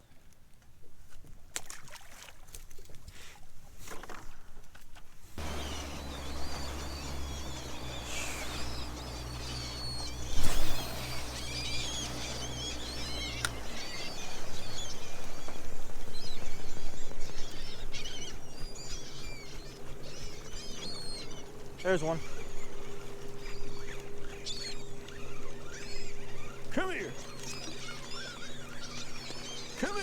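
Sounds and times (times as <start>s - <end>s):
boat motor humming: 5.4s - 30.0s
seabirds chirping: 5.4s - 30.0s.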